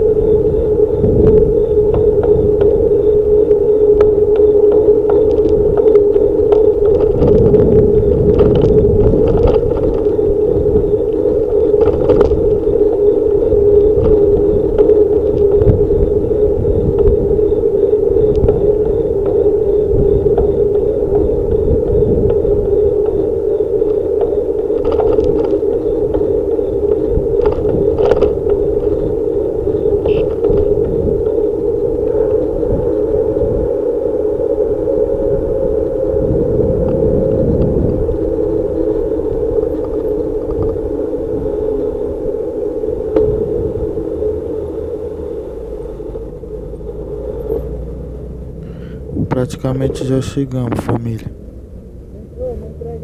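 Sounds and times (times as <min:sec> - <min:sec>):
car traffic: 0:00.0 - 0:34.0, 0:43.0 - 0:53.0
bicycle road rumble: 0:00.0 - 0:53.0.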